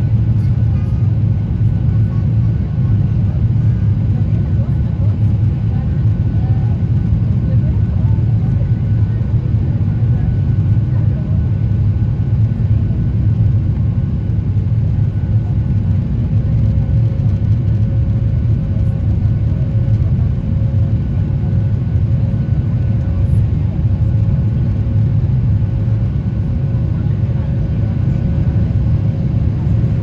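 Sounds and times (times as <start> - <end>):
jet engine low rumble: 0.0 - 30.0.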